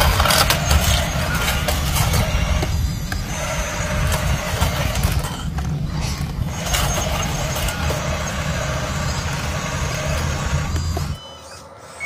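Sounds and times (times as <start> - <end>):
model loader engine rumble: 0.0 - 12.0.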